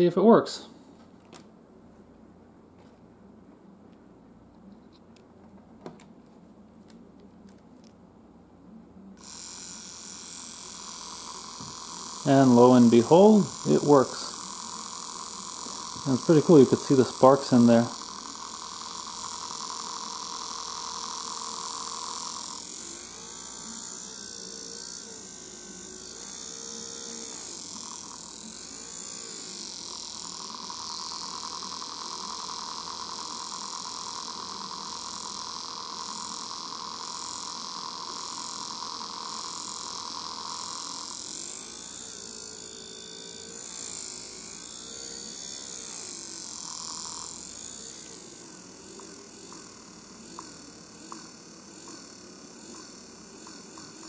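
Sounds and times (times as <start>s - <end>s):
electric motor whining: 9.2s - 54.0s.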